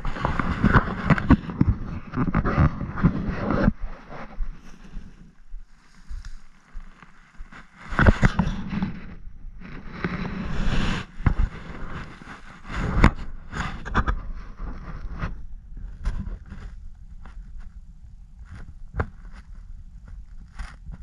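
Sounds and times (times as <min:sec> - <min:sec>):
rustling in dry grass: 0:00.0 - 0:21.0.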